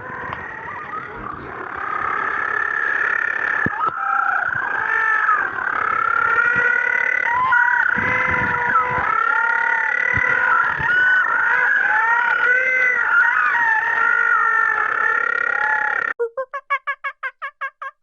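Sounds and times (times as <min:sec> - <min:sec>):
chorus of animal calls: 0:00.0 - 0:18.0.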